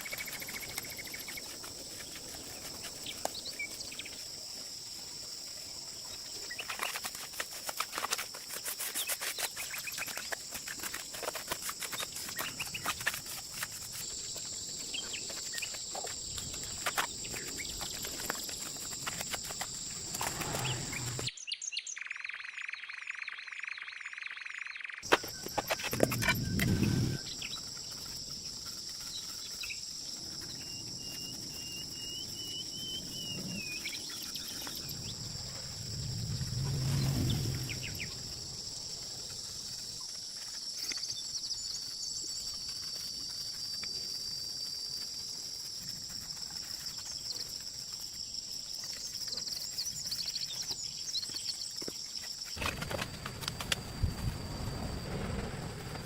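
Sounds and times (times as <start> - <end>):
high insect drone: 0.0 - 21.3, 24.8 - 56.0.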